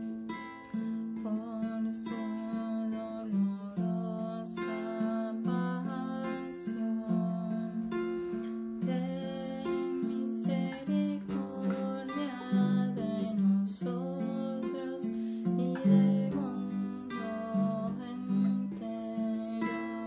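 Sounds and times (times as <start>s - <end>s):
plucked acoustic guitar melody: 0.0s - 20.0s.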